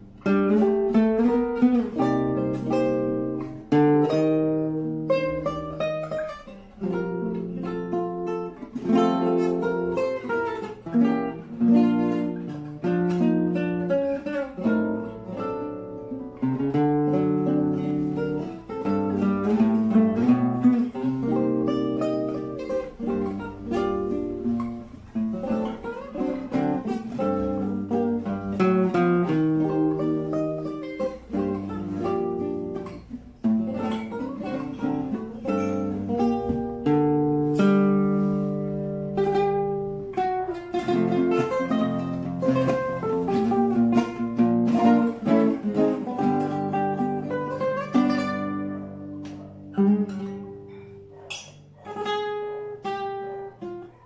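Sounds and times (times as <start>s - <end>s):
classical guitar fingerstyle: 0.0s - 54.0s
strummed guitar chords: 0.0s - 54.0s.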